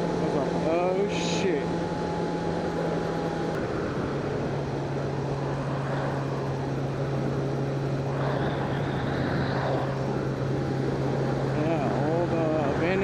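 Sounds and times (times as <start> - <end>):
motorcycle engine cruising: 0.0 - 13.0
wind rush: 0.0 - 13.0.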